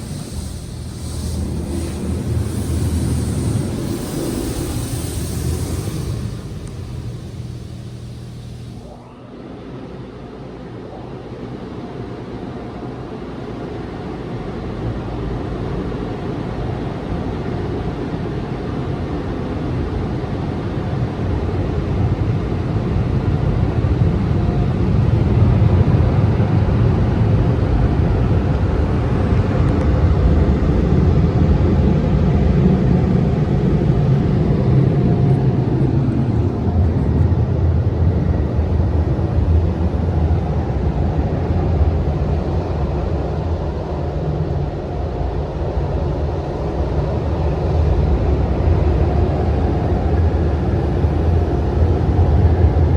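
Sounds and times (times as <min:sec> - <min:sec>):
car wash dryer blowers: 0:00.0 - 0:09.1, 0:13.9 - 0:52.9.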